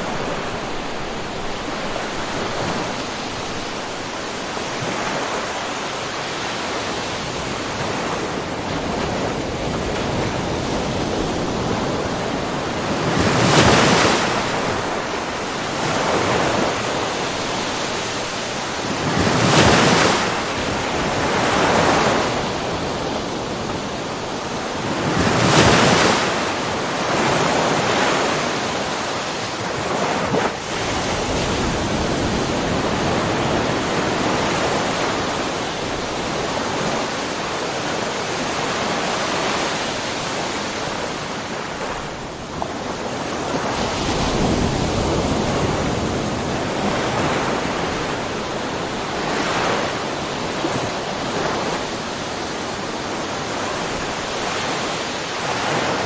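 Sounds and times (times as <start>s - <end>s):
ocean waves breaking on shore: 0.0s - 56.0s
wind noise on microphone: 0.0s - 56.0s.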